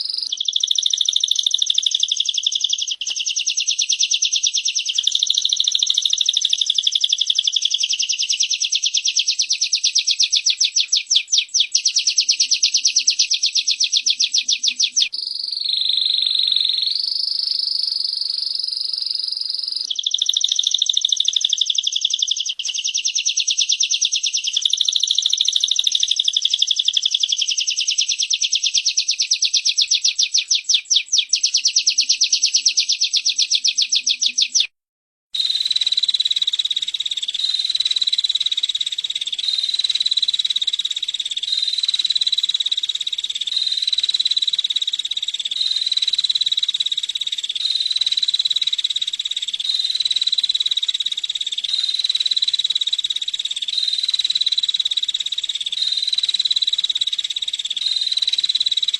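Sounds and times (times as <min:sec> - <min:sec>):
bird call dry high trill: 0:00.0 - 0:34.7, 0:35.4 - 0:58.9.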